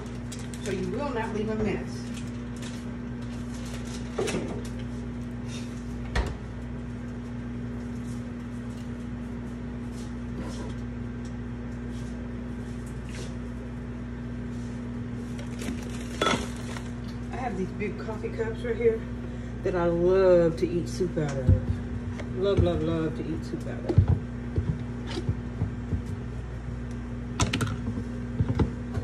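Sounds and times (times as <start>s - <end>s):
low hum of kitchen appliances: 0.0s - 29.0s.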